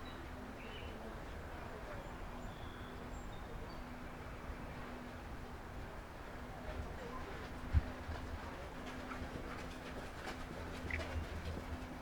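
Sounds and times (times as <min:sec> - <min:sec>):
faint constant hum: 0:00.0 - 0:12.0
outdoor rumble and hiss: 0:00.0 - 0:12.0.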